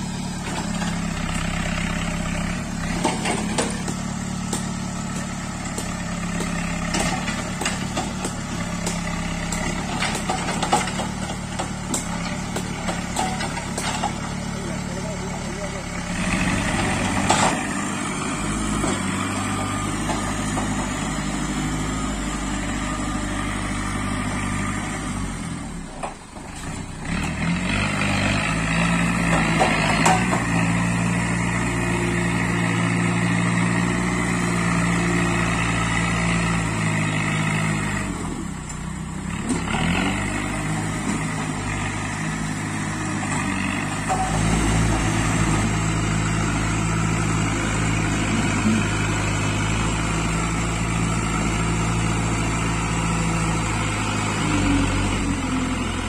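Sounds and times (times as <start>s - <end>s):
diesel engine running hard: 0.0s - 56.0s.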